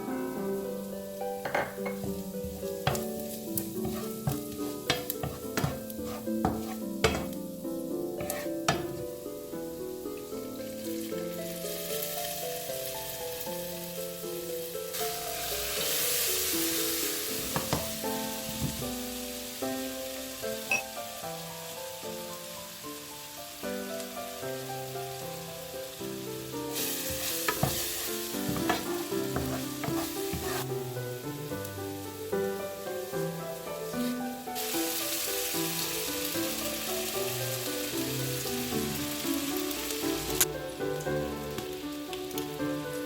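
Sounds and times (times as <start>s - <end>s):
chicken frying in hot oil: 2.0s - 43.0s.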